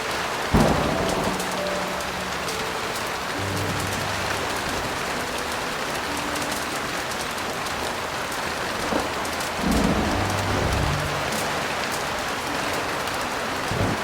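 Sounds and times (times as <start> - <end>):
heavy rain hissing: 0.0 - 14.0
low held piano notes: 0.0 - 14.0.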